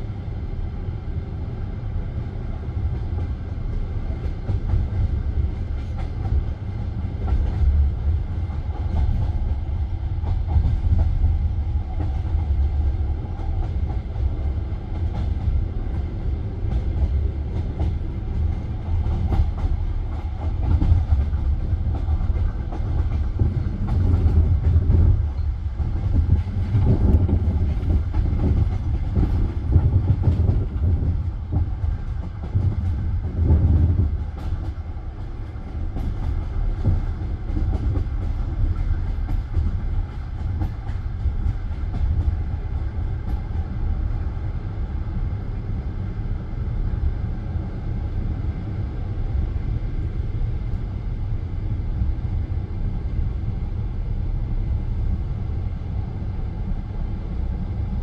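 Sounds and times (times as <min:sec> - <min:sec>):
train wheels rumbling and knocking: 0:00.0 - 0:58.0.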